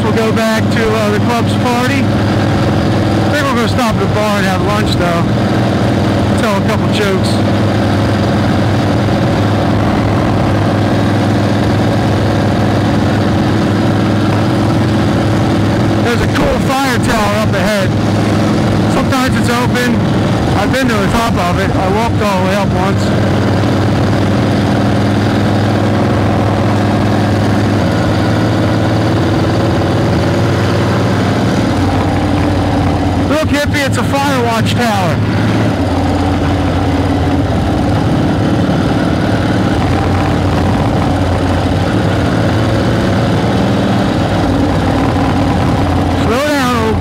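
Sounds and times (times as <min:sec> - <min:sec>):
motorcycle engine running steadily: 0:00.0 - 0:47.0.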